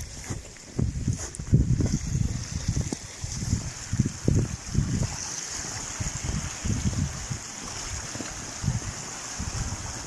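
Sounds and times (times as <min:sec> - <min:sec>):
low rumbles on microphone: 0:00.0 - 0:10.0
river current rushing: 0:01.8 - 0:10.0.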